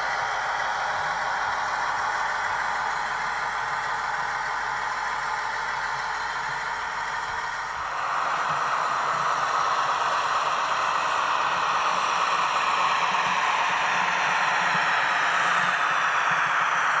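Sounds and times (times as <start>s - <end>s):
model locomotive speaker hiss: 0.0s - 17.0s.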